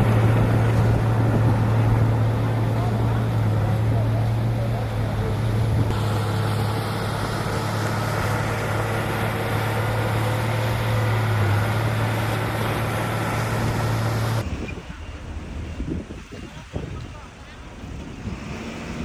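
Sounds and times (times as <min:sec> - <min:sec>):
heavy diesel engine droning: 0:00.0 - 0:15.9.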